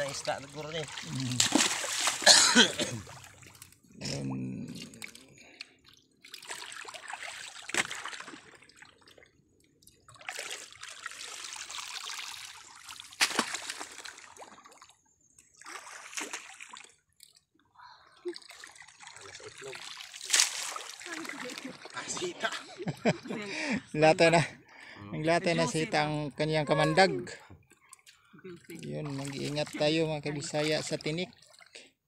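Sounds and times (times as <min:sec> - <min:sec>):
shallow water splashing: 0:00.0 - 0:23.8, 0:26.7 - 0:31.9.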